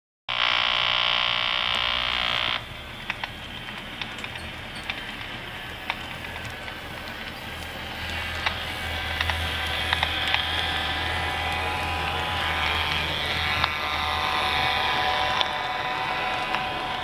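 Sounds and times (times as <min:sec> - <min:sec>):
model train rumbling on track: 0:00.3 - 0:17.0
wheel clicks: 0:02.6 - 0:17.0.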